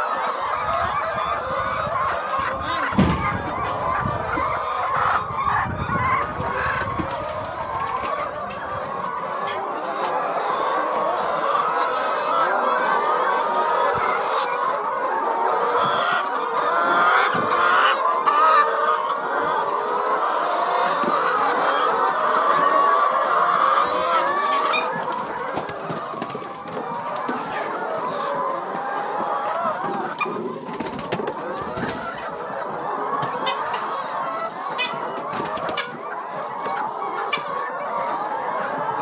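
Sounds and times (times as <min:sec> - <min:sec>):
flock of hens clucking: 0:00.0 - 0:39.0.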